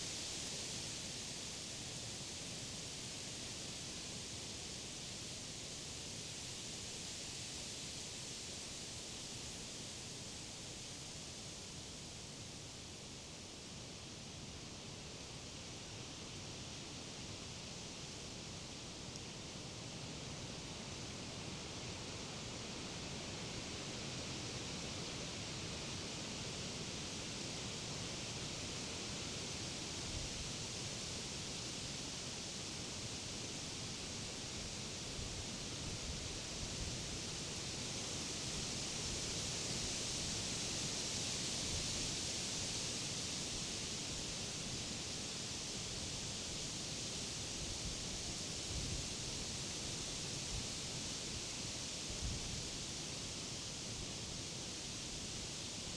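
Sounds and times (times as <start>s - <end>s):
wind rustling leaves: 0.0s - 55.9s.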